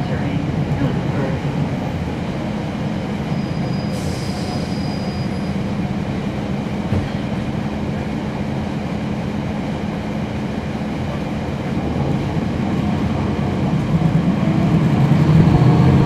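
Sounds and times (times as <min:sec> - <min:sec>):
bus engine hum: 0:00.0 - 0:16.0.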